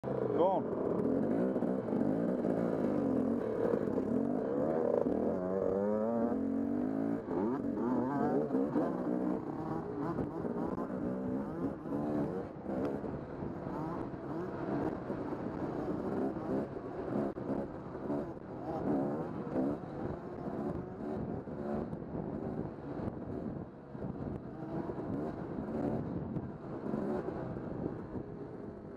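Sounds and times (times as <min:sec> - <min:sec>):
dirt bike engine revving: 0:00.1 - 0:28.9.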